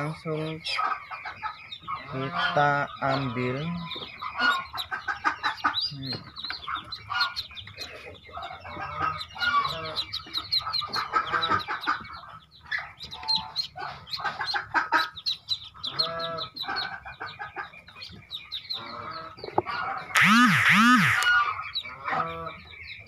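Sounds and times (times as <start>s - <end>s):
adult fowl clucking: 0.0s - 23.0s
ducklings peeping: 0.0s - 23.0s.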